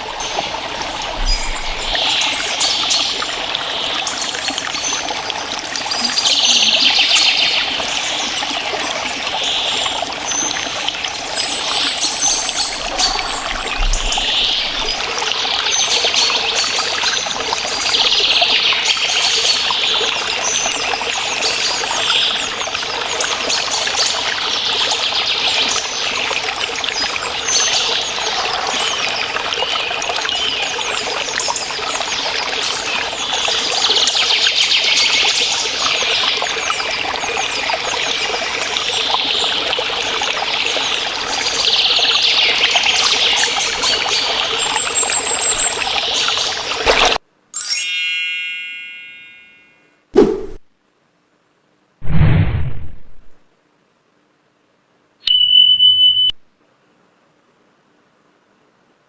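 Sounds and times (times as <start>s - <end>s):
small stream trickling: 0.0s - 49.8s.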